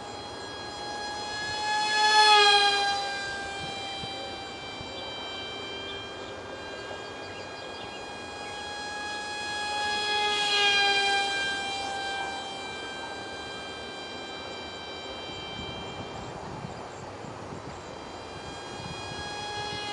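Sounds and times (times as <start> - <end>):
model plane motor whining: 0.0 - 19.9.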